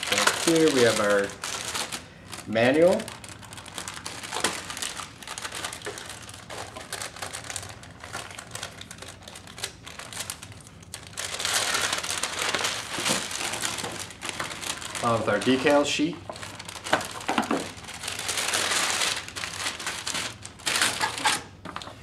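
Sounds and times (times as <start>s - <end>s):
plastic bag and paper rustling: 0.0s - 22.0s.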